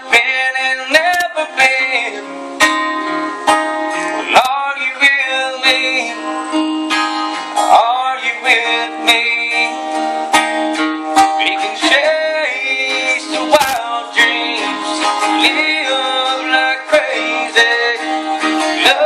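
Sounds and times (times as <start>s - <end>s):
picked guitar melody: 0.0s - 19.0s
strummed acoustic guitar chords: 0.0s - 19.0s.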